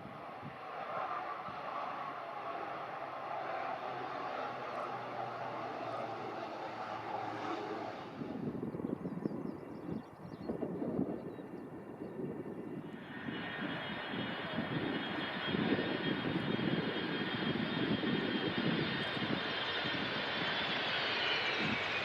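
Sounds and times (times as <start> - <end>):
turbofan whine: 0.0 - 10.0, 10.6 - 22.0
jet engine low rumble: 0.0 - 22.0.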